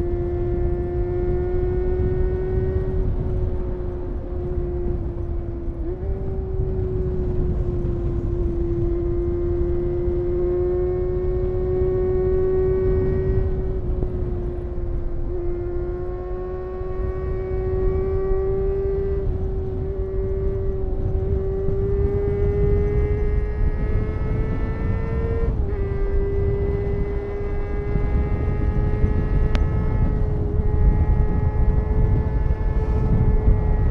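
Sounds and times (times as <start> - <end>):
motorcycle engine running: 0.0 - 33.9
wind rushing: 0.0 - 33.9.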